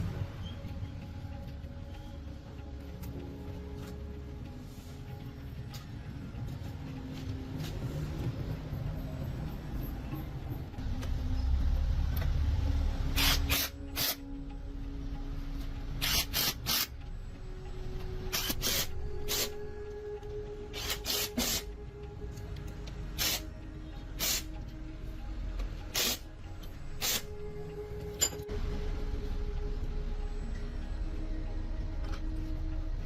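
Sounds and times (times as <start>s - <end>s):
background music: 0.0s - 33.0s.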